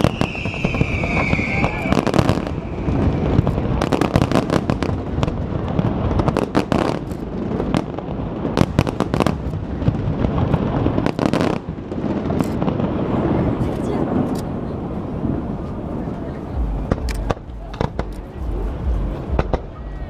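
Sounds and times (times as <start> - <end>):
fireworks bangs and cracks: 0.0 - 20.0
rumble of fireworks reports: 0.0 - 20.0.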